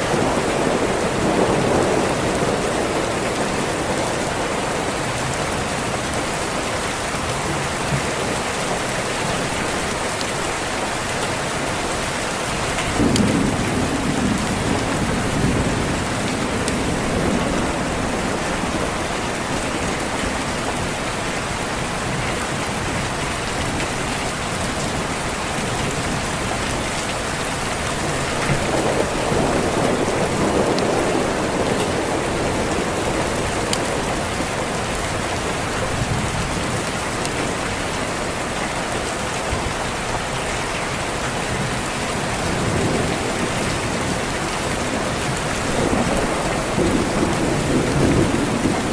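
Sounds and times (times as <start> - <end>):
low thunder rumbles: 0.0 - 6.5, 12.0 - 37.8, 41.4 - 48.9
heavy rain: 0.0 - 48.9.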